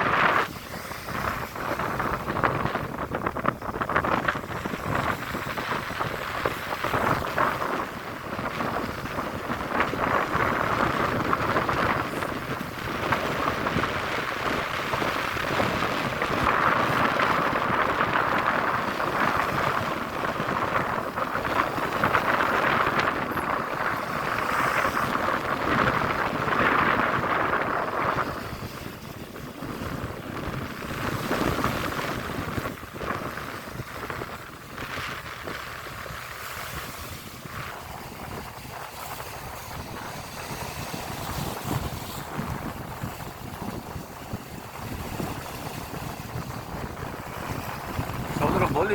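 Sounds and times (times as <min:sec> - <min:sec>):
sea waves rushing: 0:00.0 - 0:48.9
wind buffeting microphone: 0:00.0 - 0:48.9.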